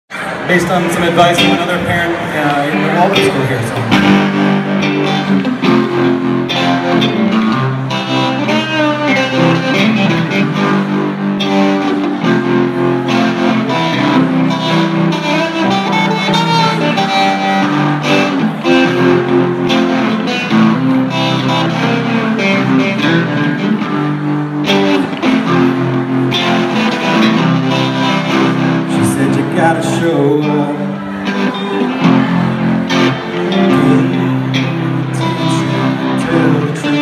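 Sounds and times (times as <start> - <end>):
electric guitar band playing: 0.1 - 37.0.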